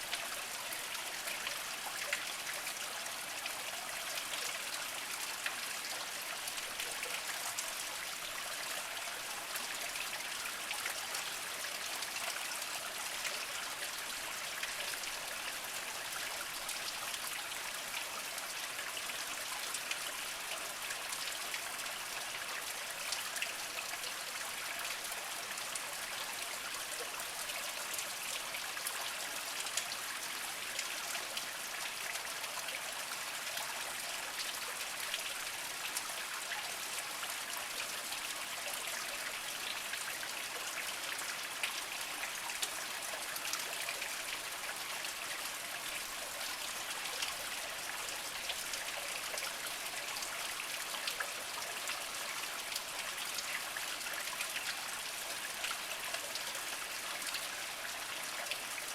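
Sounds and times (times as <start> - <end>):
stream trickling over rocks: 0.0 - 58.9.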